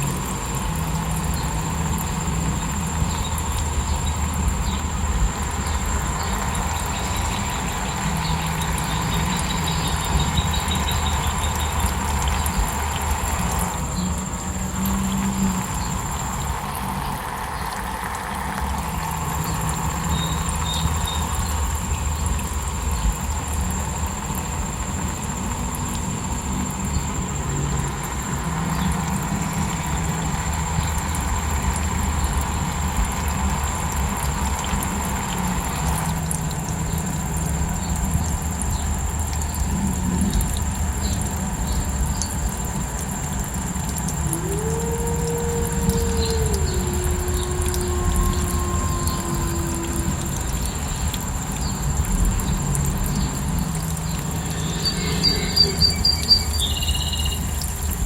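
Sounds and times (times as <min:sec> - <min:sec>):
falling water rushing: 0:00.0 - 0:58.0
high-pitched cricket trill: 0:00.0 - 0:58.0.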